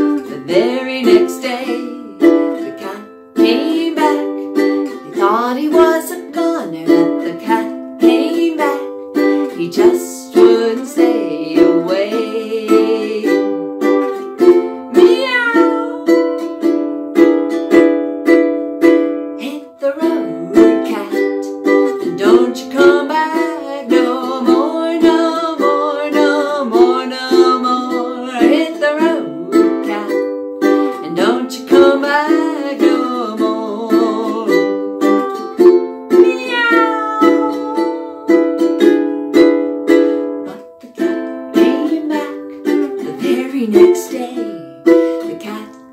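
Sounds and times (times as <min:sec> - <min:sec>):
woman singing: 0:00.0 - 0:16.7, 0:19.3 - 0:45.9
ukulele strumming: 0:00.0 - 0:45.9.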